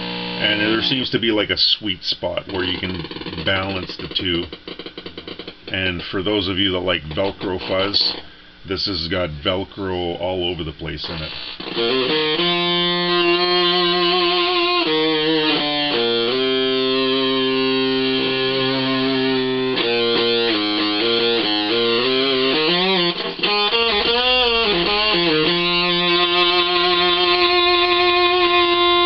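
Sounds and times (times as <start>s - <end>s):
fuzz electric guitar: 2.3s - 8.4s, 11.0s - 29.0s.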